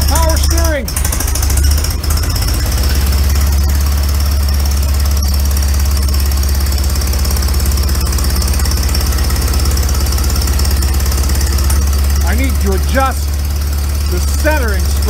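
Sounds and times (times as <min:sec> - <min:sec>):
tractor engine idling roughly: 0:00.0 - 0:15.0.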